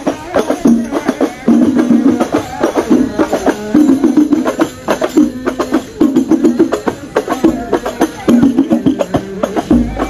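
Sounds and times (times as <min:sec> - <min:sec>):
frame drums beaten in rhythm: 0:00.0 - 0:10.0.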